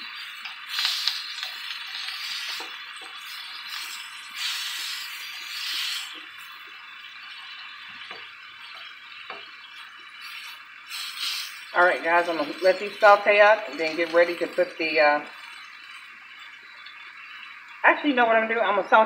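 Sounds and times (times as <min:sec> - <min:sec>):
vegetables sizzling in a wok: 0:00.0 - 0:19.0.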